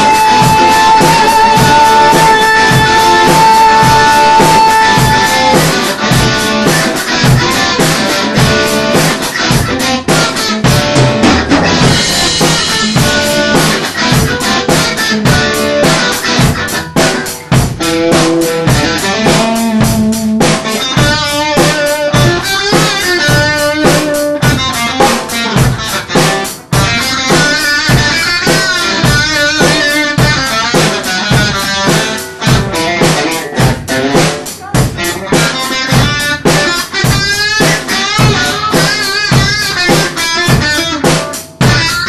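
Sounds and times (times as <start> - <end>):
drum kit steady beat: 0.0 - 42.0
electric guitar: 0.0 - 42.0.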